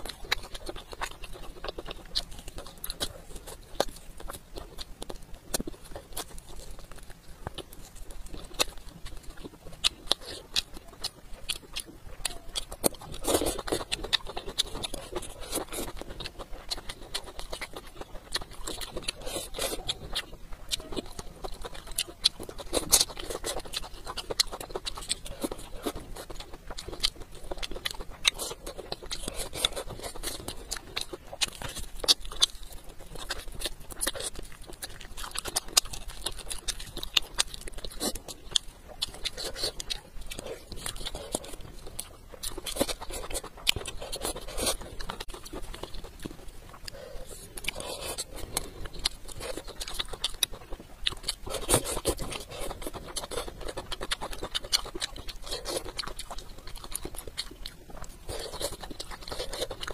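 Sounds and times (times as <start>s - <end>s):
chewing and lip-smacking: 0.0s - 59.9s.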